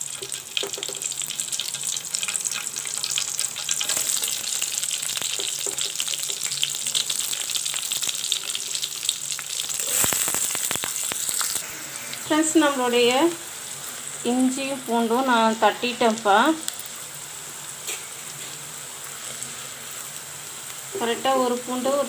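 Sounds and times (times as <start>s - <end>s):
seeds sizzling in hot oil: 0.0s - 22.0s.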